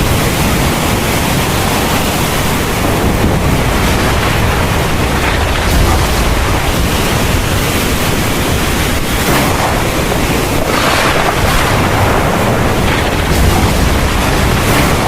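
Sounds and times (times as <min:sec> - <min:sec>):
heavy rain downpour: 0:00.0 - 0:15.0
deep low thunder rumble: 0:02.5 - 0:15.0.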